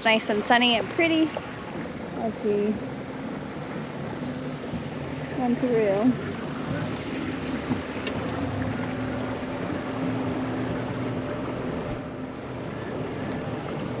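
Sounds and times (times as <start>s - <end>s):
boat motor running: 0.0s - 14.0s
wind: 0.0s - 14.0s.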